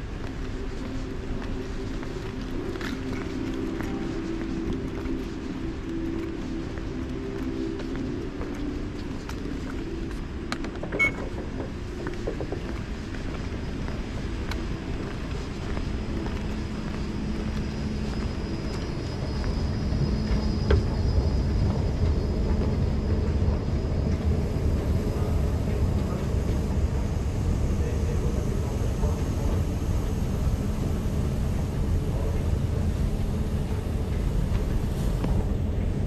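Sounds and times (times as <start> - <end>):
faint high whine: 0.0 - 36.0
train rumble: 0.0 - 36.0.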